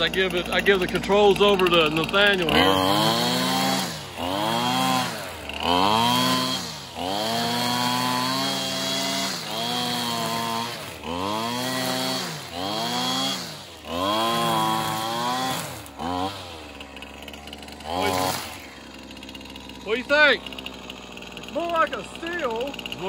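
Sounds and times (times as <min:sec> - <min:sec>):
string trimmer engine revving: 0:00.0 - 0:23.0.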